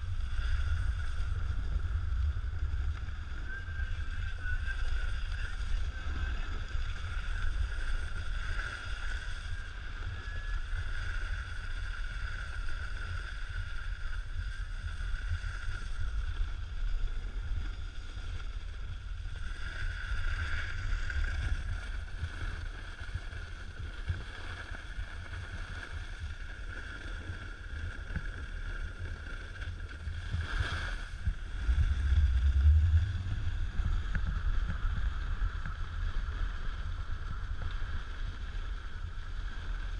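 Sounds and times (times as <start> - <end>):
faint high whine: 0.0 - 39.9
snowboard scraping snow: 0.0 - 39.9
wind on microphone: 0.0 - 39.9.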